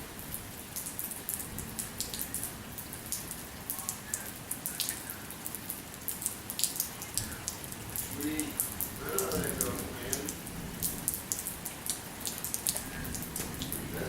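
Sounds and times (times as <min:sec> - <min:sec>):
light rain falling: 0:00.0 - 0:14.0.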